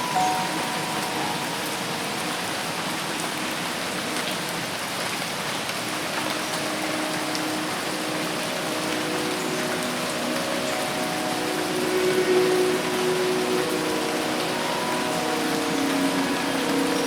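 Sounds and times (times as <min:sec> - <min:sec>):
rain falling on foliage: 0:00.0 - 0:17.0.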